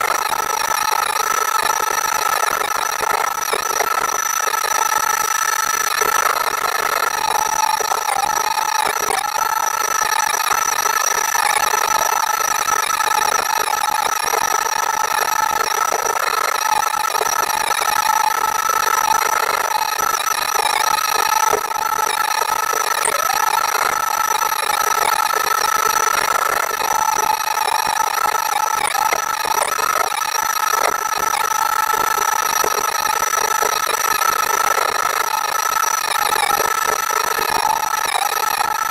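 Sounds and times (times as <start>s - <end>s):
hydraulic mulcher high-pitched whine: 0.0s - 38.9s.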